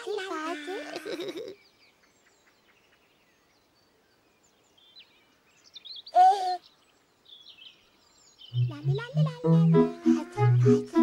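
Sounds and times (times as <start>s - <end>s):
faint bird chirps: 1.0s - 10.7s.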